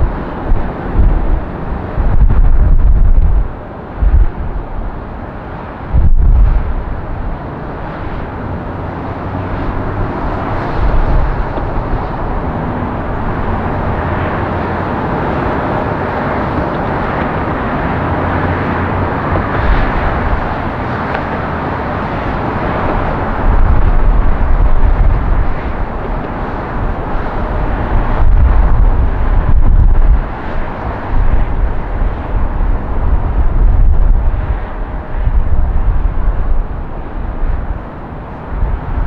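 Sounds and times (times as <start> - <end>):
jet engine rushing: 0.0 - 39.0
low rumbles: 0.0 - 39.0.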